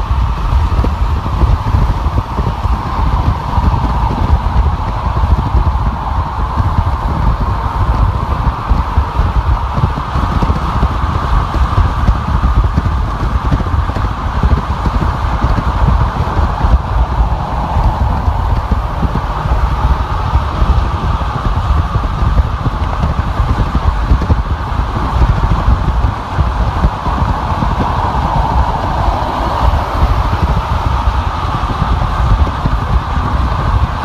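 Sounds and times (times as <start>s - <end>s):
deep fluttering car rumble: 0.0s - 34.0s
tyre and wind noise: 0.0s - 34.0s.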